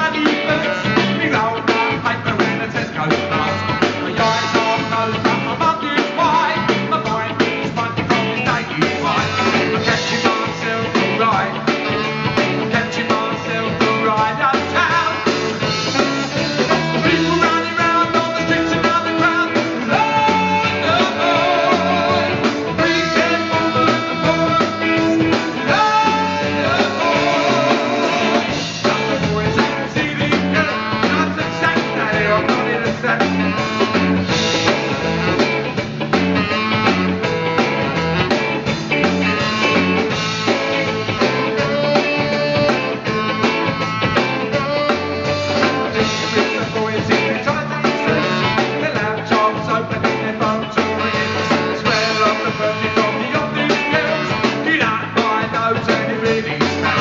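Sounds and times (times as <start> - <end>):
person singing lead vocal: 0.0 - 35.5, 38.9 - 57.0
drum kit: 0.0 - 57.0
electric bass guitar: 0.0 - 57.0
saxophone: 0.0 - 57.0.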